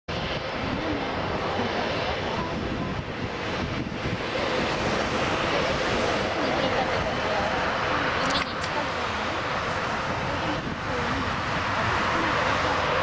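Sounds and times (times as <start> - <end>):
jet engines on takeoff roll: 0.1 - 13.0.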